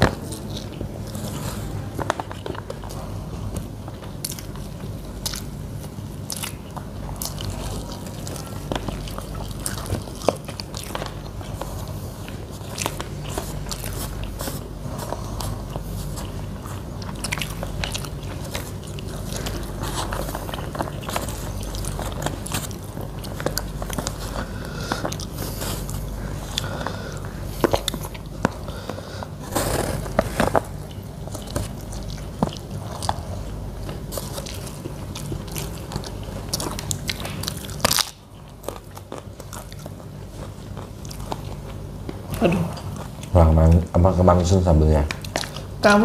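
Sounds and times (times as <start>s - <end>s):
chewing and crunching: 0.0s - 46.0s.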